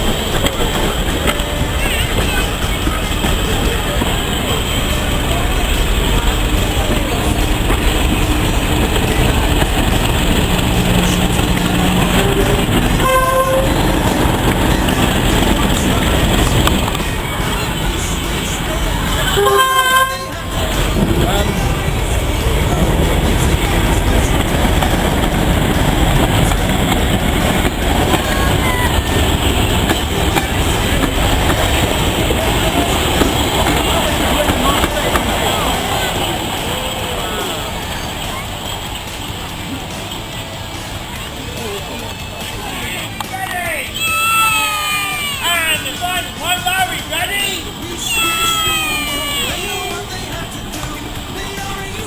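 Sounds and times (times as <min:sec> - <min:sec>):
train wheels rumbling and rattling: 0:00.0 - 0:52.0.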